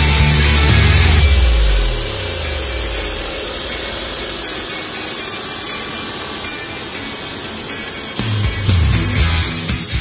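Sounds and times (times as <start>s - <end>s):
saw grinding into concrete: 0.0s - 9.2s.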